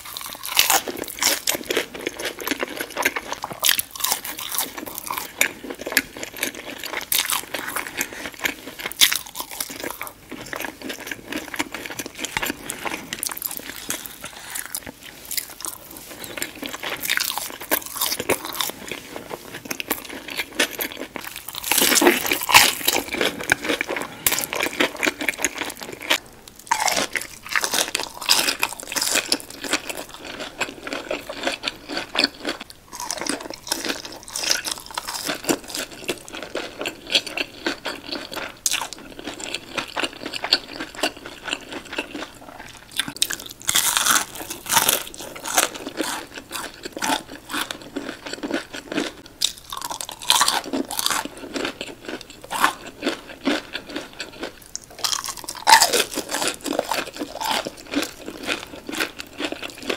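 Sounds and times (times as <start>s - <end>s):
crunching fried food: 0.0s - 59.9s
wet chewing: 0.0s - 59.9s.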